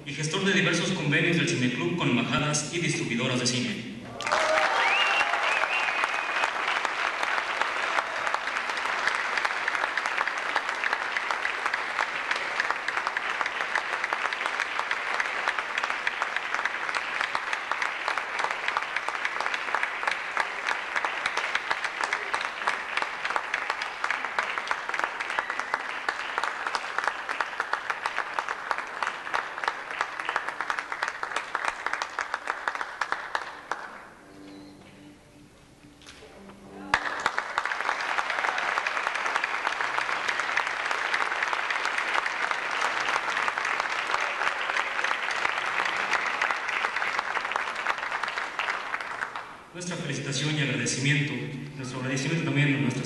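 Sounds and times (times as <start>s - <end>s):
audience applause: 4.1s - 34.1s, 36.9s - 49.7s.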